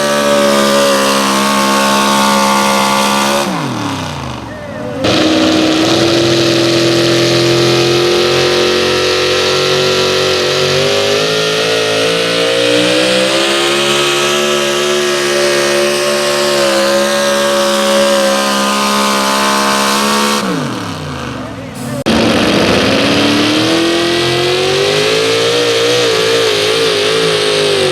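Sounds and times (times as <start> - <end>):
vehicle engine at full throttle: 0.0 - 27.9.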